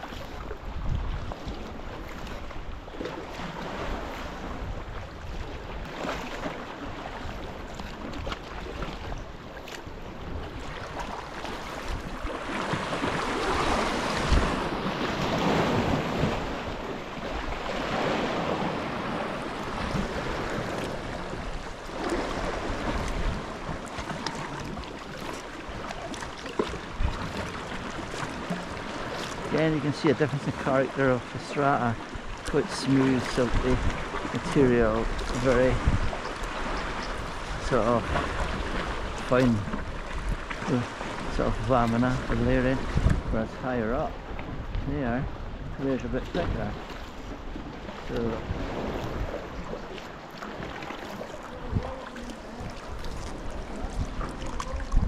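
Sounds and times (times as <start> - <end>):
wind buffeting microphone: 0.0 - 2.8, 6.8 - 24.9, 26.9 - 50.0, 50.6 - 55.0
sea water splashing on rocks: 5.8 - 43.3, 48.0 - 55.0.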